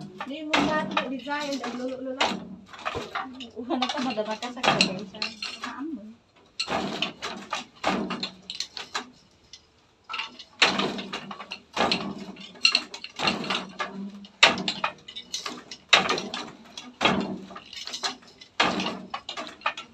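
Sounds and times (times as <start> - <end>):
wooden loom knocking and clattering: 0.0 - 19.9.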